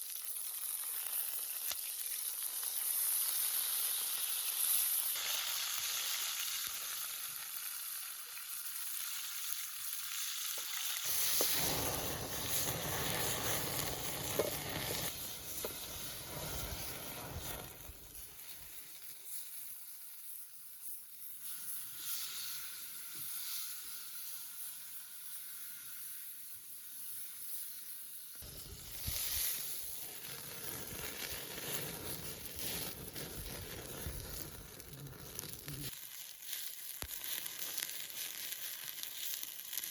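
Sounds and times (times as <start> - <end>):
food sizzling and frying: 0.0 - 39.9.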